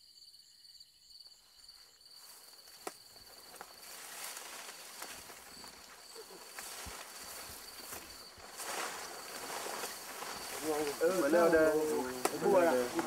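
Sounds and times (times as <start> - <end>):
crickets trilling: 0.0 - 13.0
foliage rustling: 1.7 - 13.0.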